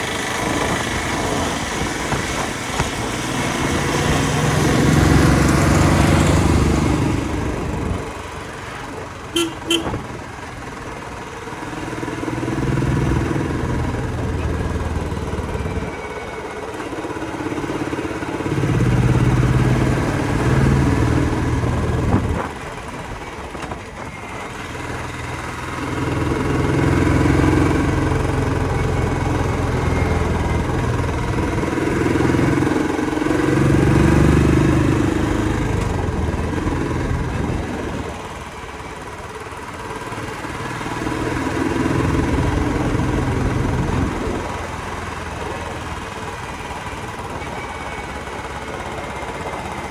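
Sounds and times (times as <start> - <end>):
motorcycle engines running: 0.0 - 49.9.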